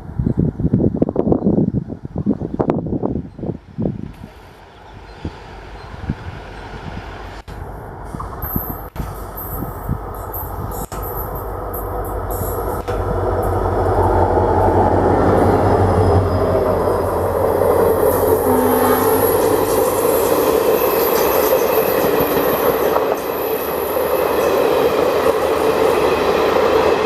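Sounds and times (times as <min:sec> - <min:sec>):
diesel locomotive engine hum: 0:00.0 - 0:27.0
train rumble: 0:00.0 - 0:27.0.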